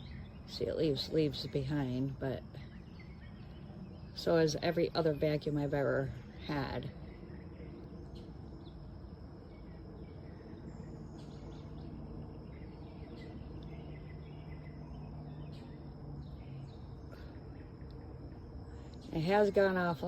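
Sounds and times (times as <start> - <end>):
high insect whine: 0.0 - 20.0.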